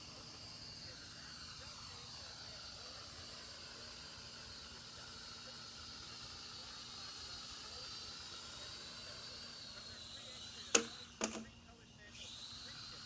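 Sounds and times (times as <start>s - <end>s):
hiss: 0.0s - 13.0s
toy drone rotors whining: 0.0s - 13.0s.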